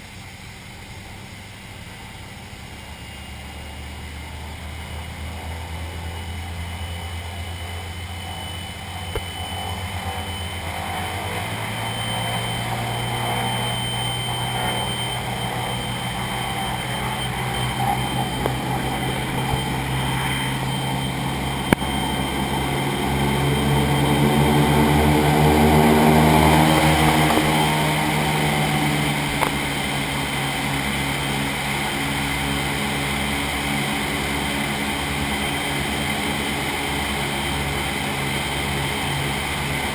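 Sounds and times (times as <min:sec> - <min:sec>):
aircraft engines droning: 0:00.0 - 0:39.9.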